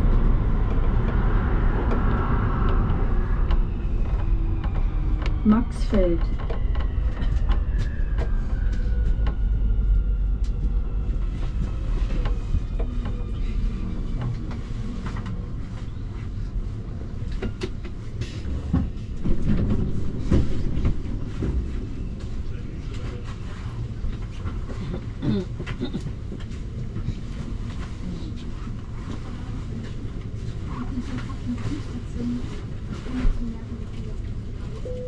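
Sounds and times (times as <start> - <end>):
low train rumble: 0.0 - 35.0.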